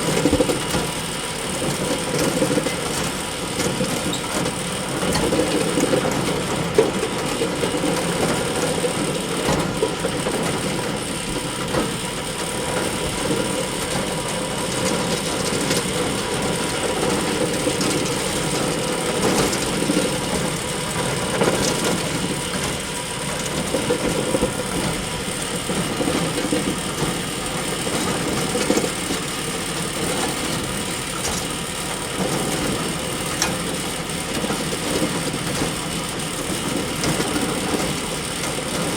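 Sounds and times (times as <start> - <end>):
hay bale elevator clattering: 0.0 - 38.9.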